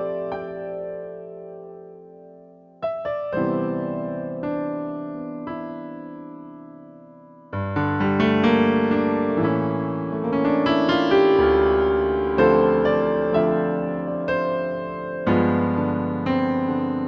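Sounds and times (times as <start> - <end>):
keyboard playing piano chords: 0.0 - 17.0.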